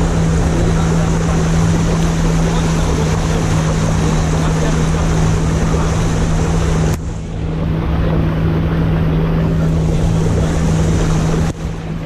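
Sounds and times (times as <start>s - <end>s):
outboard motor humming: 0.0s - 12.0s
rushing wind and water: 0.0s - 12.0s.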